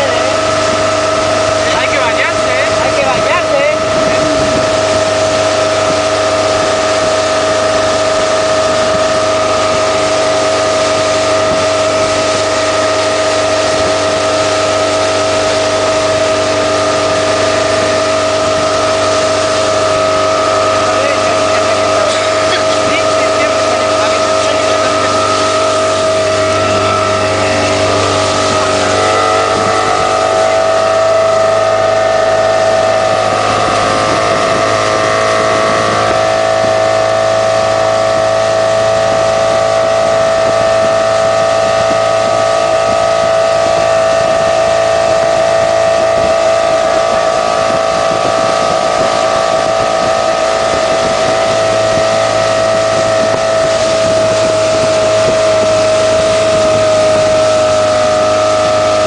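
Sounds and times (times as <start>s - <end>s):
motorboat engine running: 0.0s - 59.0s
rushing water: 0.0s - 59.0s
wind noise: 0.0s - 59.0s.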